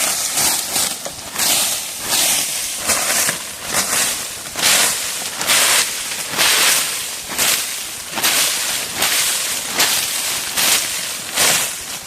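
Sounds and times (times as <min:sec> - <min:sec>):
dry leaves rustling and crunching: 0:00.0 - 0:12.0.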